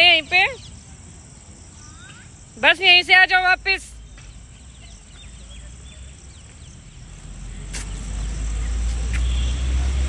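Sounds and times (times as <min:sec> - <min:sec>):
faint bird chirps: 0:00.0 - 0:02.5, 0:04.0 - 0:10.0
insects chirring: 0:00.0 - 0:10.0.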